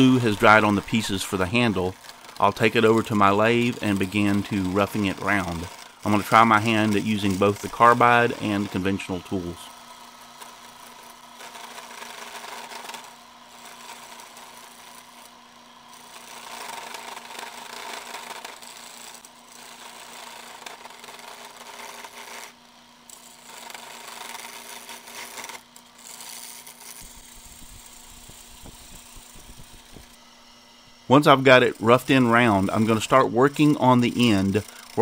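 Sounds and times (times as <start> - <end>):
lathe motor hum: 0.0 - 35.0
turning tool cutting wood: 0.0 - 35.0.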